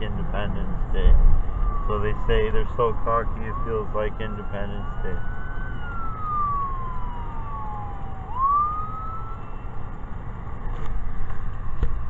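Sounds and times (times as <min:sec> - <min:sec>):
emergency vehicle siren wailing: 0:00.0 - 0:11.8.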